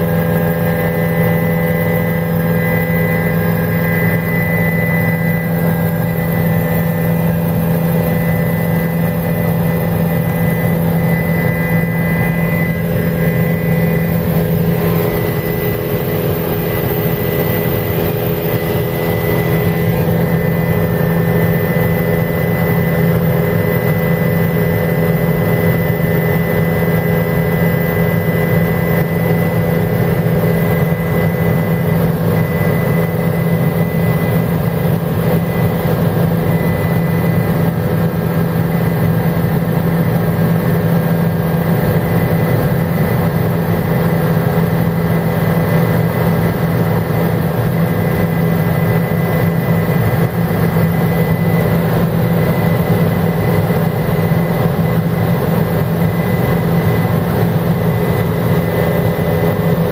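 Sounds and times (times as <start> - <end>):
helicopter rotor and engine drone: 0.0 - 59.9
high whine: 0.0 - 59.9.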